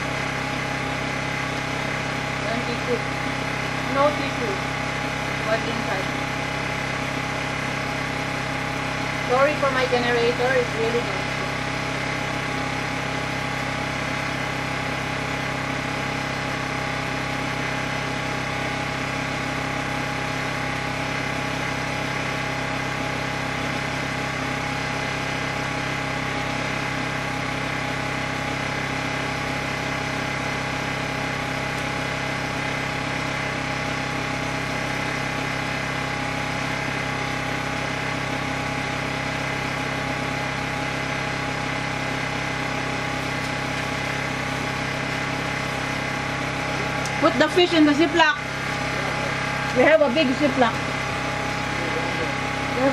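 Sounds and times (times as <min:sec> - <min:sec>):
generator engine running: 0:00.0 - 0:52.9.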